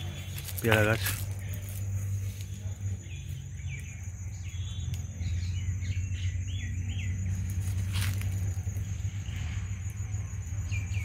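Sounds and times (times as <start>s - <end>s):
high insect drone: 0.0s - 11.0s
low rumble: 0.0s - 11.0s
small birds chirping: 0.0s - 11.0s.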